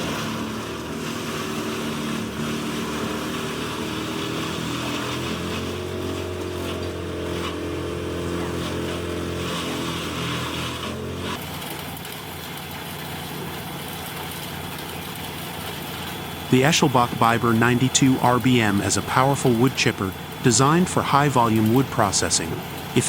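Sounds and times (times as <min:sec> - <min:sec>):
wood chipper diesel engine: 0:00.0 - 0:23.0.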